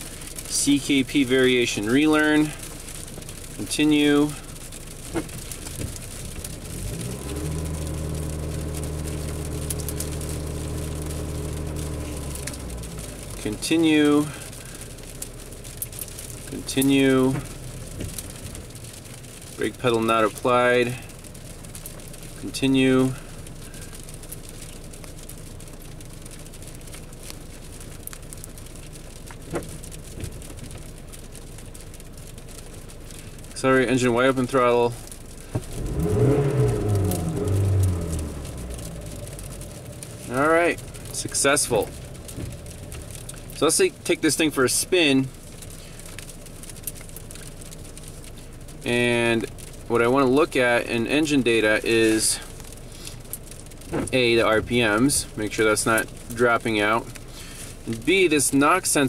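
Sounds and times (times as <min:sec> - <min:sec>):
car engine starting and idling: 0:00.0 - 0:59.0.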